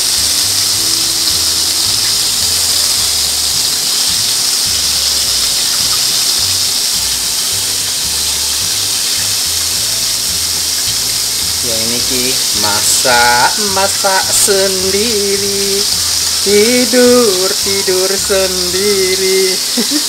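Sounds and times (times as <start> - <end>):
background music with bass: 0.0 - 19.6
chicken deep-frying in oil: 0.0 - 20.0.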